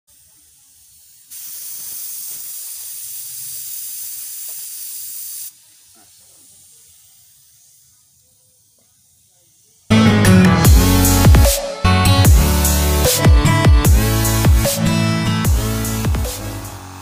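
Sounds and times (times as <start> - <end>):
air spray gun hissing: 0.1 - 11.3, 12.4 - 17.0.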